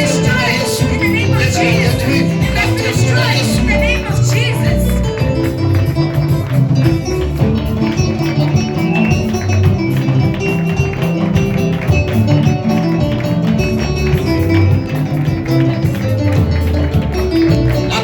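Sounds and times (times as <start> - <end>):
bass guitar: 0.0 - 18.0
plucked electric guitar: 0.0 - 18.0.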